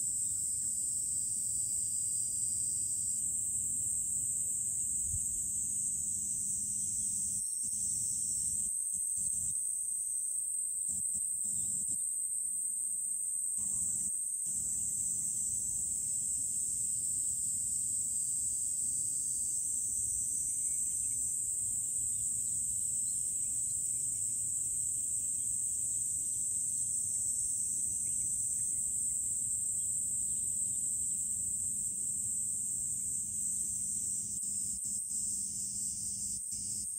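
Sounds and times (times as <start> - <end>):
insects chorus: 0.0 - 36.9.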